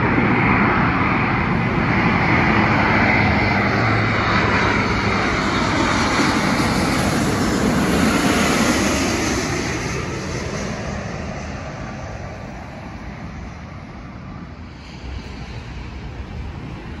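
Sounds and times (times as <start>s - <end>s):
jet airliner passing overhead: 0.0s - 17.0s
wind rumble on microphone: 0.0s - 17.0s.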